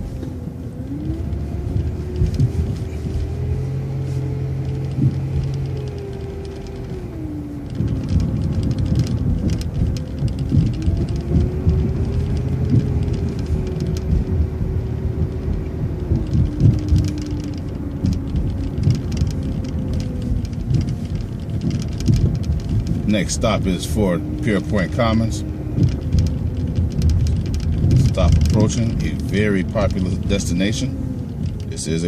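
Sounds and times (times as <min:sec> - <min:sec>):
bus drivetrain whine: 0:00.0 - 0:32.0
road rumble: 0:00.0 - 0:32.0
small rattles and knocks: 0:00.0 - 0:32.0.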